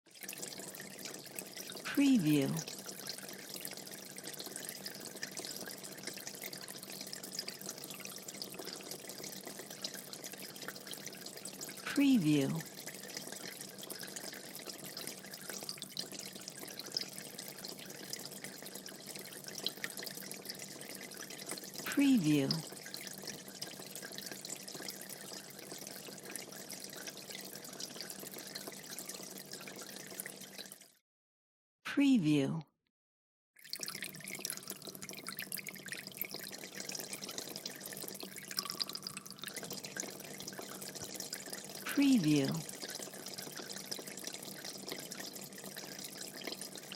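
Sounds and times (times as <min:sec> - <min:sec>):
aquarium water bubbling: 0:00.1 - 0:31.0, 0:33.6 - 0:46.9.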